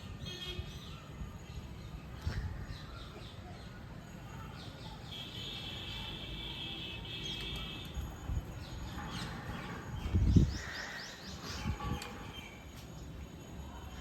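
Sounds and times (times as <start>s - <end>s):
birds chirping: 0.2s - 13.4s.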